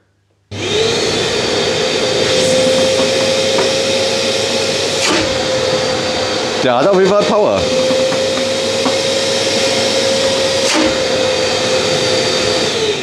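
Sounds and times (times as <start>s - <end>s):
workshop vacuum whining: 0.5s - 13.0s.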